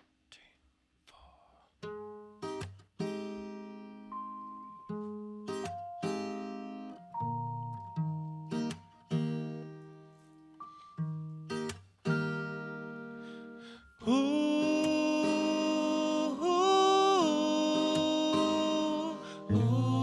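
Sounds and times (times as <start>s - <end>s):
plucked chords ringing out: 3.4s - 20.0s.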